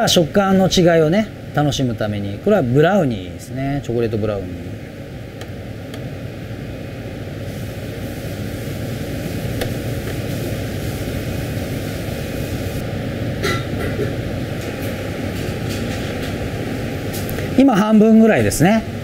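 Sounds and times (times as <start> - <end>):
ventilation fan whirring: 0.0 - 19.0.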